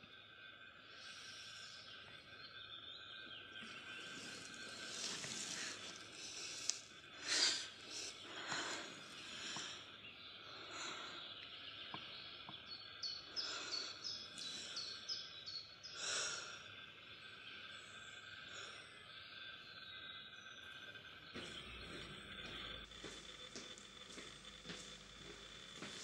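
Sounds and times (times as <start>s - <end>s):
bird chirping: 0.1s - 26.0s.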